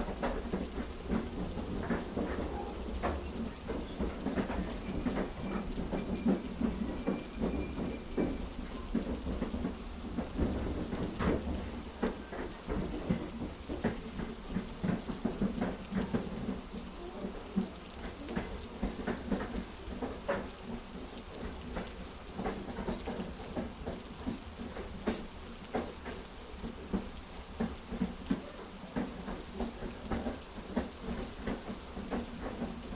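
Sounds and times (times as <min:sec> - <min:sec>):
heavy rain: 0:00.0 - 0:32.9.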